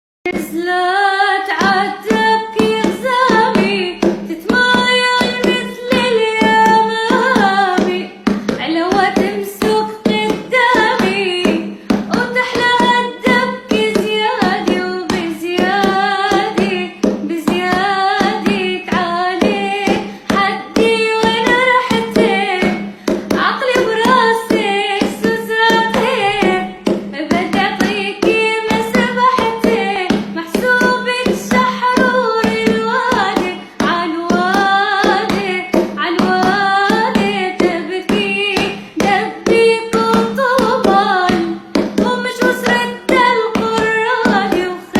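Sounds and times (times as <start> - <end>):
girl singing: 0.3 - 44.9
quick even beat: 1.5 - 44.9.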